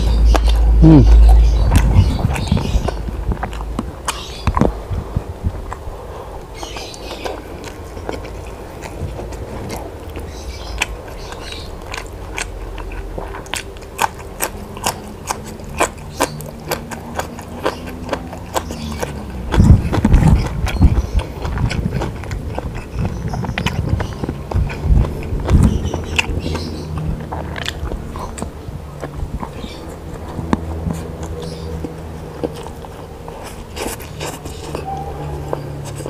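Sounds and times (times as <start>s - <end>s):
person biting and chewing food: 0.0s - 36.0s.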